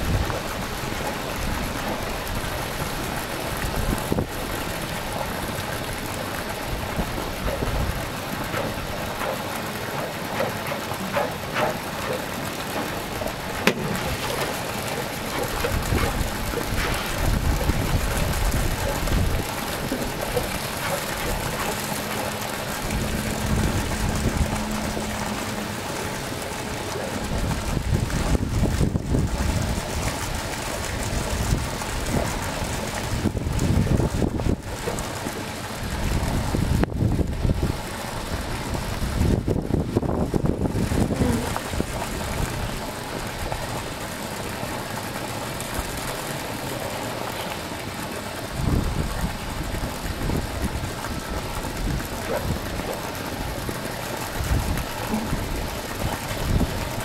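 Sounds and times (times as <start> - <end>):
wind buffeting microphone: 0.0 - 43.6, 48.4 - 57.0.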